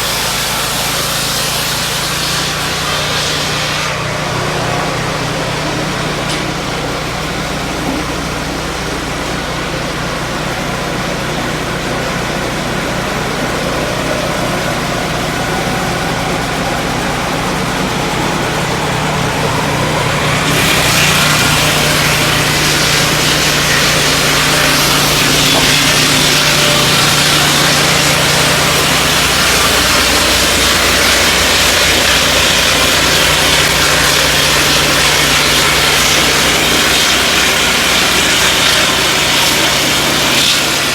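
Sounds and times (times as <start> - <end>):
saw blade cutting log: 0.0 - 40.9
sawmill engine running: 0.0 - 40.9.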